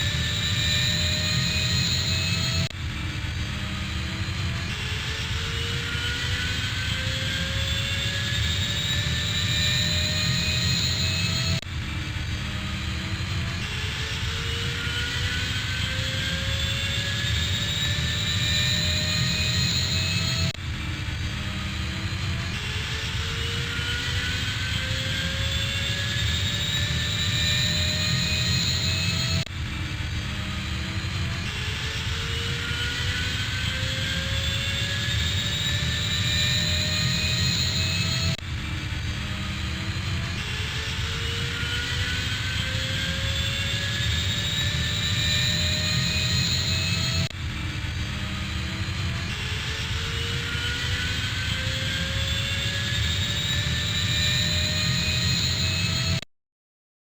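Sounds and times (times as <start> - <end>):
airplane flying overhead: 0.0 - 56.2.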